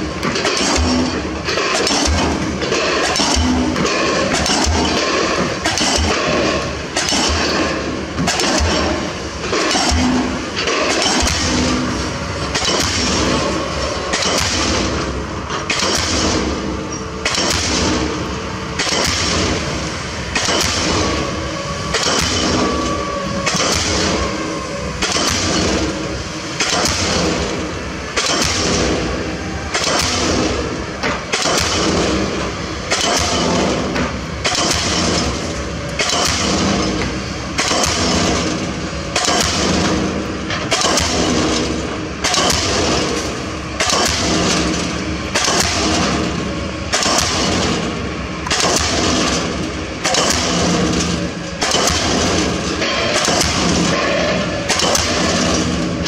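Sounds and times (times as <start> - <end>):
continuous machinery noise: 0.0 - 56.0
pile hammer blows: 0.0 - 56.0.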